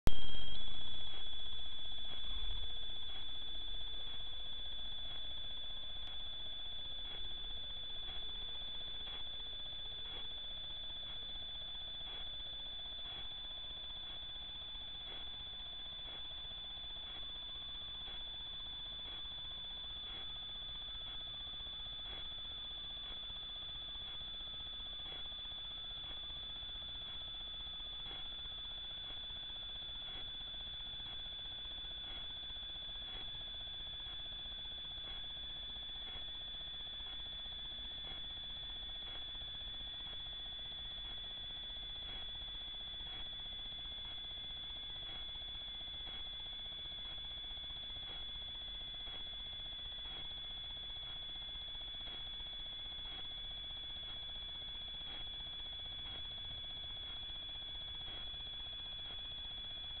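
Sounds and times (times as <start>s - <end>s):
low hum: 0.0s - 60.0s
high electronic whine: 0.1s - 60.0s.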